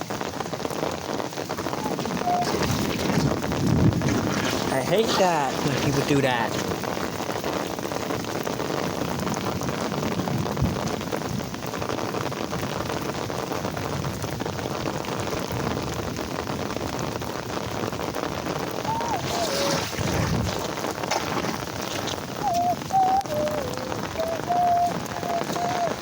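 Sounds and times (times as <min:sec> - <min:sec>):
rain falling on hard ground: 0:00.0 - 0:26.0.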